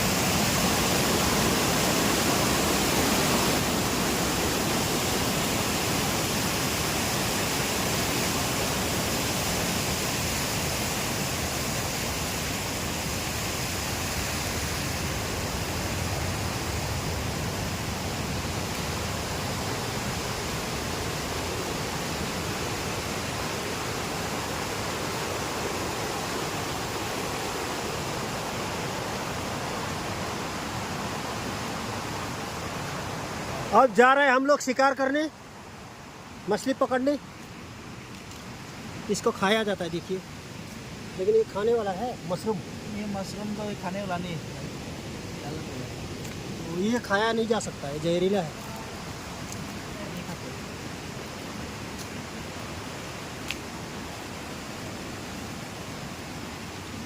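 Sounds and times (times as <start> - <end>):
rushing river water: 0.0 - 57.0.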